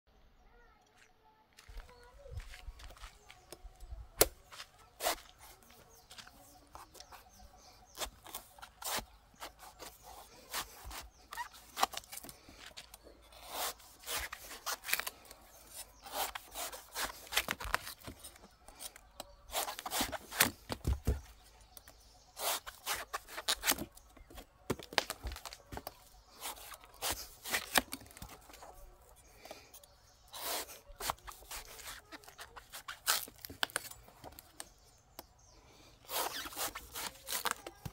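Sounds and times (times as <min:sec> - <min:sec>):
knife cutting coconut husk: 0:04.2 - 0:28.7, 0:29.5 - 0:35.3, 0:36.0 - 0:37.9.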